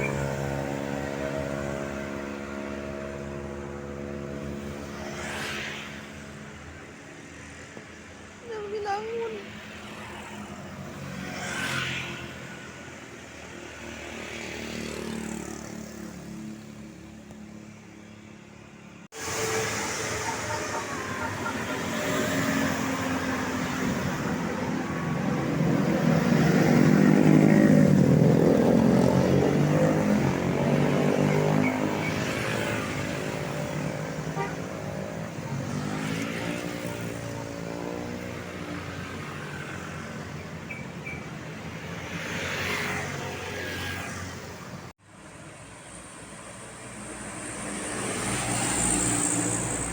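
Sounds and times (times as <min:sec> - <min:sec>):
vehicle passing by: 0:00.0 - 0:06.2, 0:09.3 - 0:12.9, 0:13.6 - 0:16.7, 0:19.2 - 0:40.4, 0:41.7 - 0:44.9, 0:46.6 - 0:49.9.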